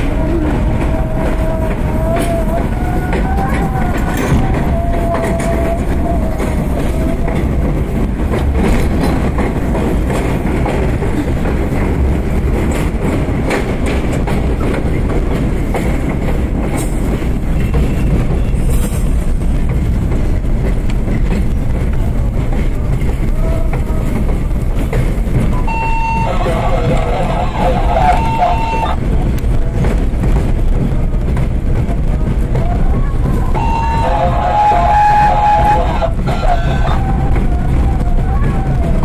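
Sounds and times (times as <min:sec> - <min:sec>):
subway train rumble: 0:00.0 - 0:39.0.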